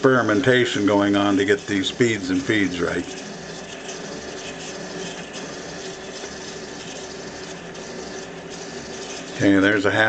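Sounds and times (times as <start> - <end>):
drill bit cutting plastic: 0.0 - 10.0
lathe motor hum: 0.0 - 10.0.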